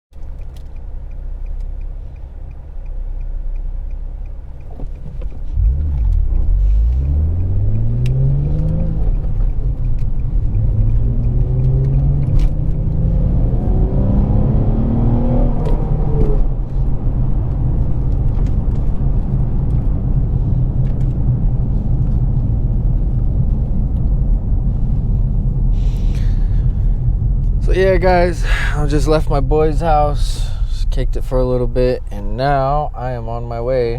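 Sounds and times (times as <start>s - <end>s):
car engine and exhaust revving: 0.1s - 33.9s.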